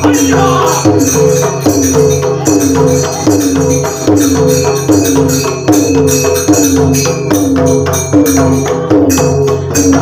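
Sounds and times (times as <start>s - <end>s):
hand cymbals clashing: 0.0s - 10.0s
hand drum rhythm: 0.0s - 10.0s.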